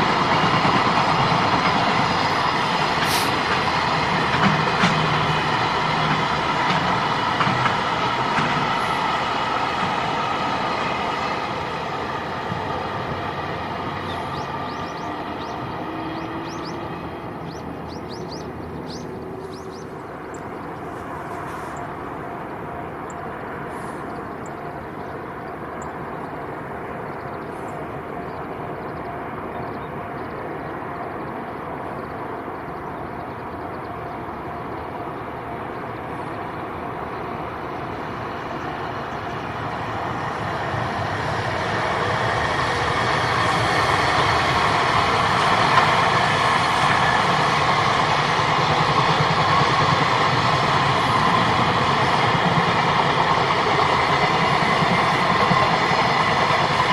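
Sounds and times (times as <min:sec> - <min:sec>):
freight train passing: 0:00.0 - 0:56.9.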